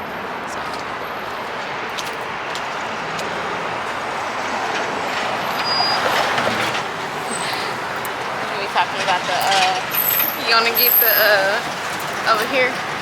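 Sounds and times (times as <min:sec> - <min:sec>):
passing vehicles rushing: 0:00.0 - 0:13.0.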